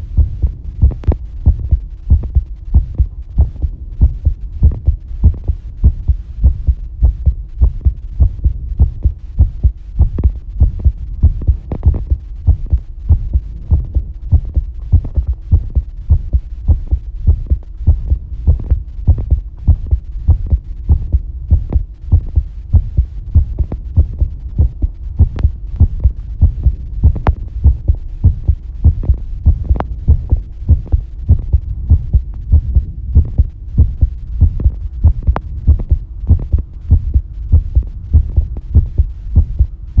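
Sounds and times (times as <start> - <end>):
faint steady hum: 0.0 - 40.0
heart beating: 0.0 - 40.0.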